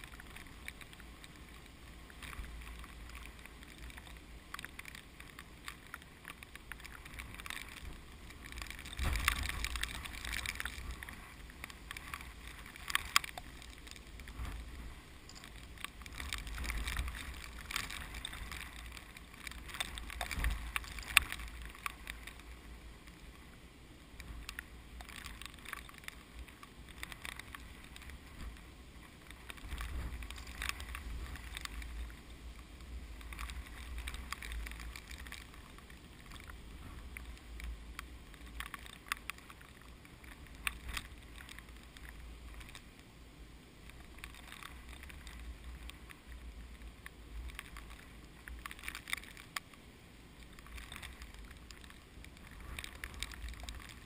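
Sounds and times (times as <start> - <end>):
plants rustling and crackling: 0.0 - 54.0
wind rumble on microphone: 0.0 - 54.0.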